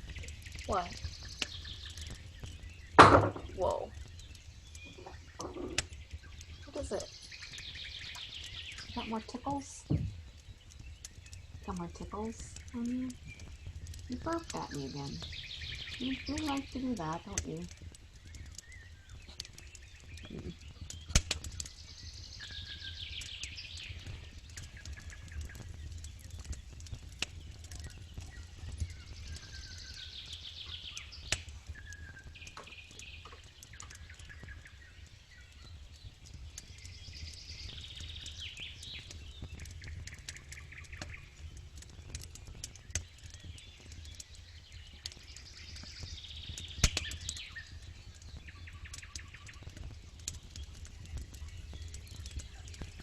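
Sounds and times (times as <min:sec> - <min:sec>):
campfire crackling: 0:00.0 - 0:53.0
songbirds singing trills: 0:00.0 - 0:53.0.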